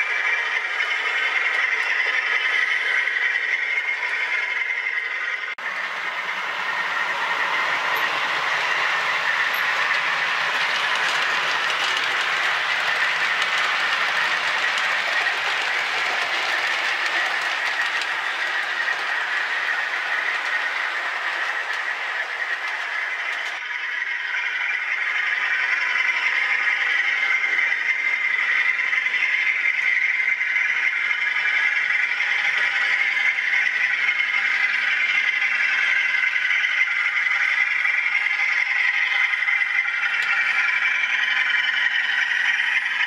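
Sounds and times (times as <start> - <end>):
model train rolling on track: 0.0 - 43.0.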